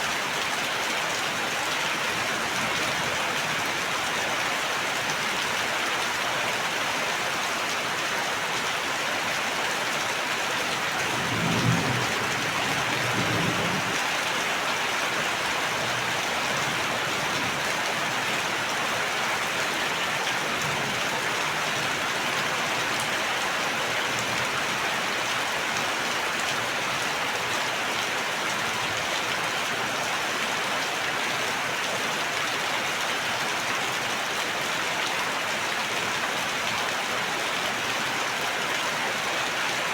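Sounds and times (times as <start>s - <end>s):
steady rain hissing: 0.1s - 32.5s.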